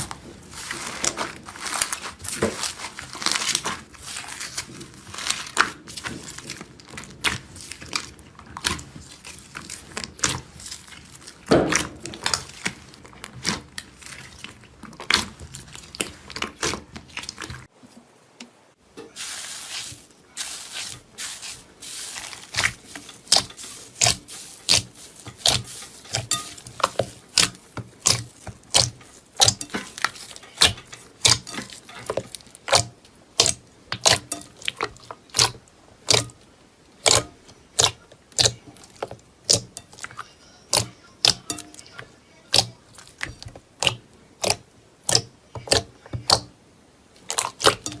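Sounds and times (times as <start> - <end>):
crunchy material crackling when pressed: 0.0 - 17.7, 19.0 - 48.0.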